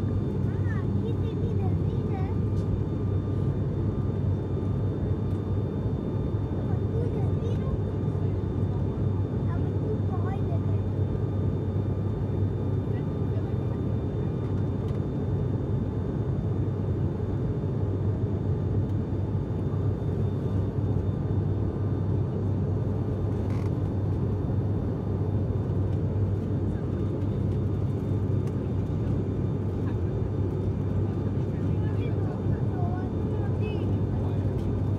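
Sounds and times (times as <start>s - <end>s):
turboprop engine drone in cabin: 0.0s - 34.9s.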